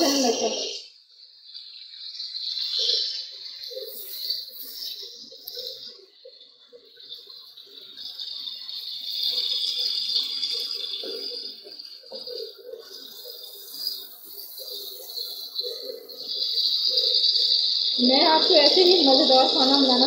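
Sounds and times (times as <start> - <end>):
onions sizzling in hot oil: 1.3 - 6.0, 7.0 - 20.0.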